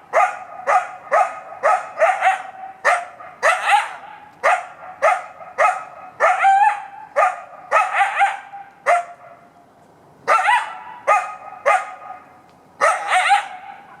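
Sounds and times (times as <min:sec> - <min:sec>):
coyote barking and yelping: 0:00.0 - 0:09.4, 0:10.3 - 0:14.0.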